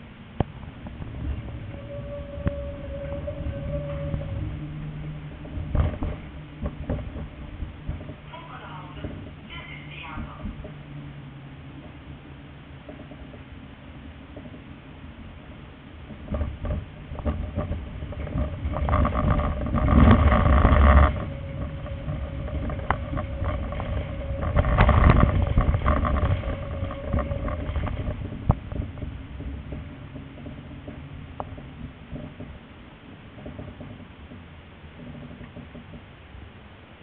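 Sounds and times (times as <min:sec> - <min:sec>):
tram rumbling on track: 0:00.0 - 0:37.0
tram wheel whine on curve: 0:00.0 - 0:37.0
wheels clicking over rail joints: 0:00.0 - 0:37.0.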